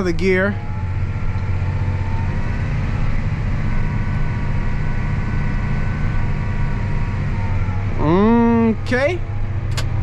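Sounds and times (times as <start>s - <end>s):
faint engine whine: 0.0s - 10.0s
tractor engine droning under load: 0.0s - 10.0s.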